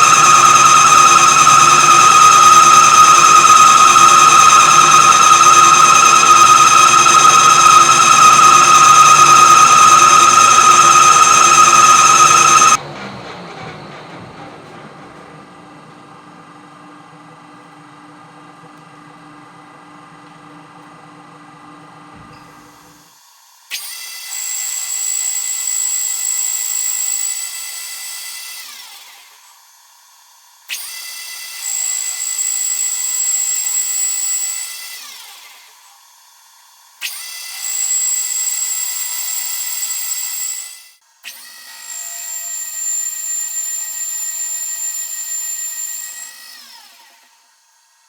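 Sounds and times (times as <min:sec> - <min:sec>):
power tool motor whining: 0:00.0 - 0:12.8, 0:22.3 - 0:48.0.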